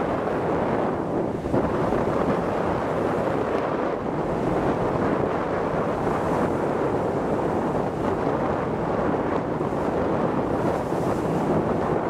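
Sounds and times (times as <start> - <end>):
waves splashing against boat bow: 0.0 - 12.0
wind buffeting microphone: 0.0 - 12.0.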